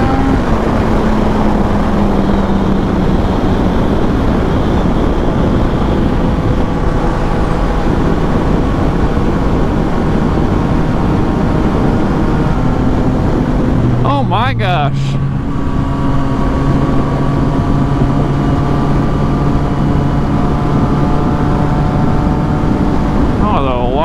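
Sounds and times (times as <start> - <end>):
motorcycle engine: 0.0 - 24.0
wind rush on microphone: 0.0 - 24.0.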